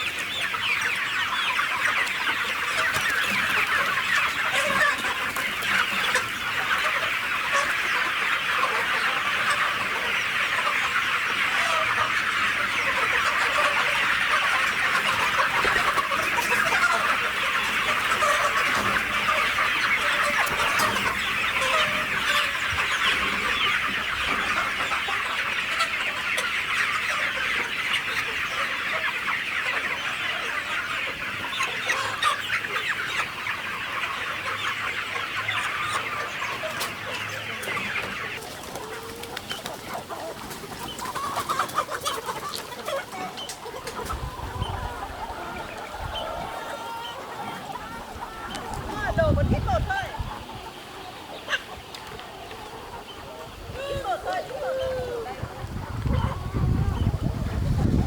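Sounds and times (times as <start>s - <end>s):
flock of chickens clucking: 0.0s - 58.0s.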